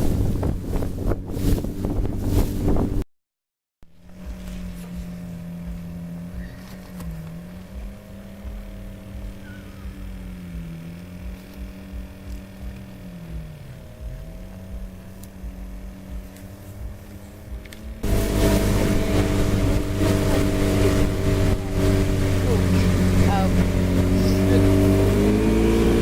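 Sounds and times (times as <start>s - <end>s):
engine humming steadily: 0.0s - 3.0s, 3.8s - 26.0s.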